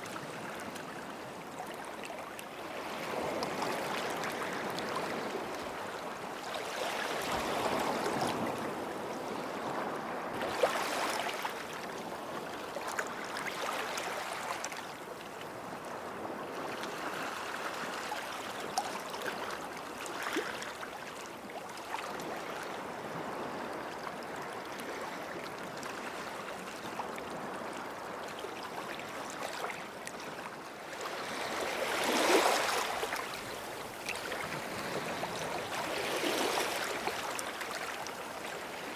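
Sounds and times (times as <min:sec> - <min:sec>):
small waves lapping on shore: 0:00.0 - 0:38.9.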